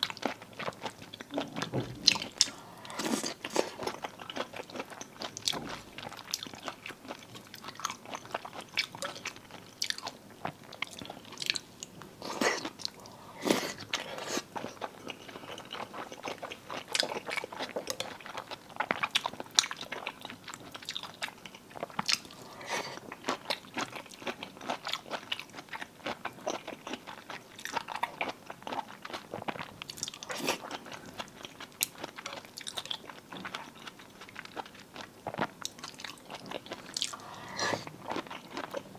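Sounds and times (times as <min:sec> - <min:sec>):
person chewing wet food: 0:00.0 - 0:38.9.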